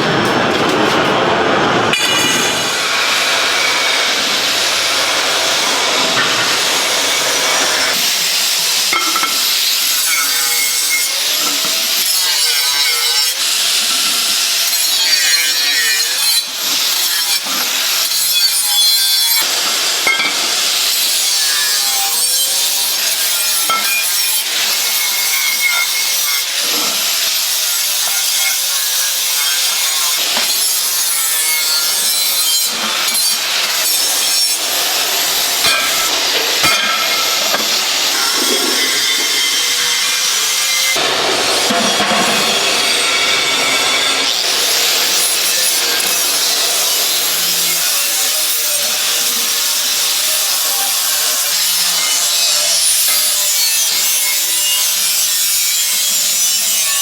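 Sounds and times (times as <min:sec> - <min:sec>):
power tool grinding: 0:01.9 - 0:57.0.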